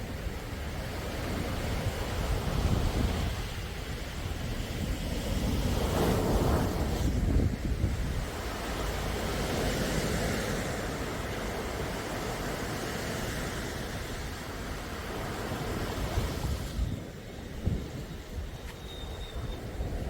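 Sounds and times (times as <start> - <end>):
sea waves washing: 0.0 - 20.0
wind rumble on microphone: 0.0 - 20.0.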